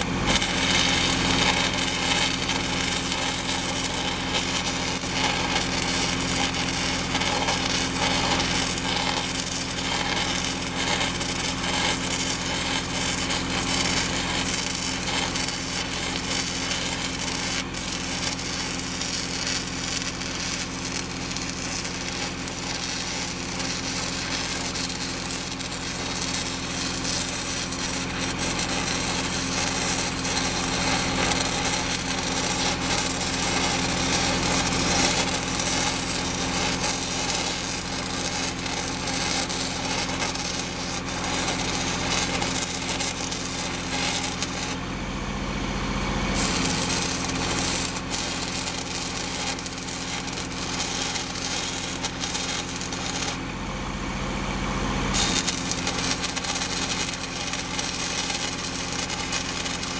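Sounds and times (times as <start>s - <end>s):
welding arc crackling: 0.0s - 44.8s, 46.3s - 53.5s, 55.1s - 59.9s.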